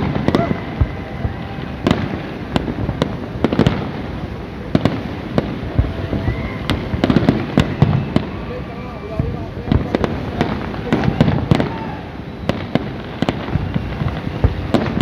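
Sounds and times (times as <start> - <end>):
rumble of distant explosions: 0.0 - 15.0
sharp firework bangs: 0.0 - 15.0.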